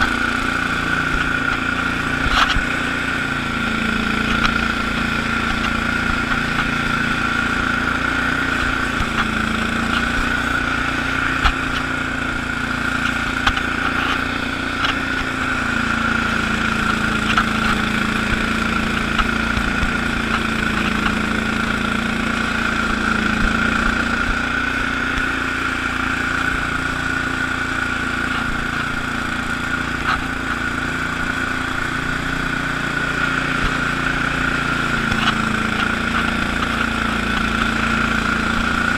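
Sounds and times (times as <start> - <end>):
garden tractor engine running: 0.0 - 38.9
high whine of rotary broom: 0.0 - 38.9.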